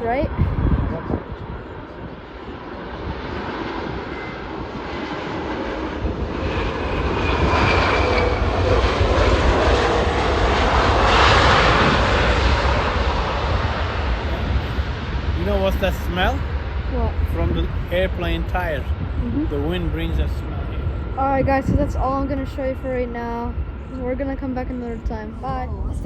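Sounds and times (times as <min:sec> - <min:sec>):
jet airliner passing: 0:00.0 - 0:26.0.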